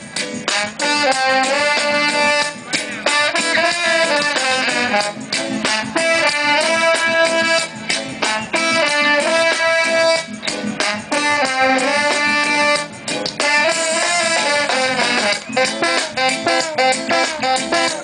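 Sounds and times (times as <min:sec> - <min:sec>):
live reggae band playing: 0:00.0 - 0:18.0.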